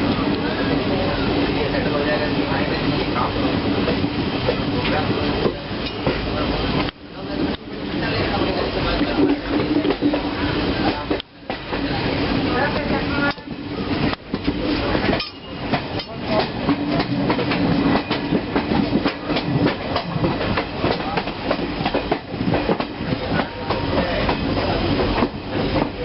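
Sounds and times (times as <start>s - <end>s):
train wheels clattering over rails: 0.0s - 26.0s.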